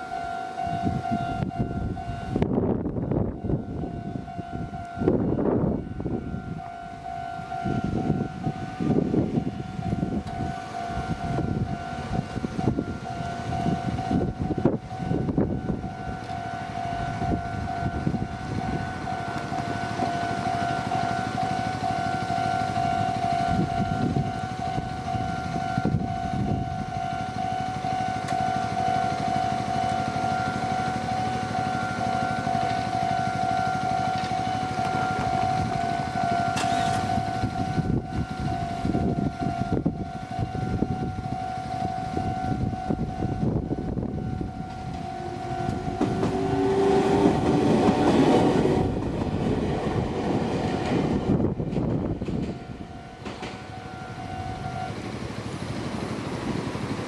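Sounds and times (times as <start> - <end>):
level-crossing warning bell: 0.0 - 57.0
train rumbling: 0.0 - 57.0.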